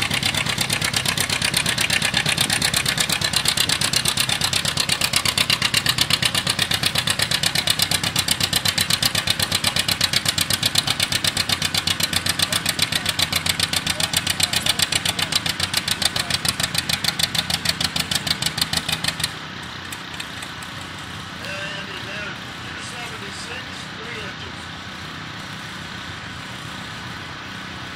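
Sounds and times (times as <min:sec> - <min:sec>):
tractor engine popping: 0:00.0 - 0:27.9.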